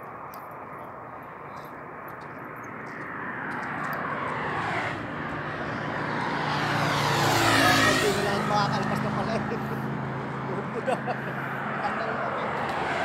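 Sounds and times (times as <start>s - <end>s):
vehicle passing by: 2.4s - 13.0s.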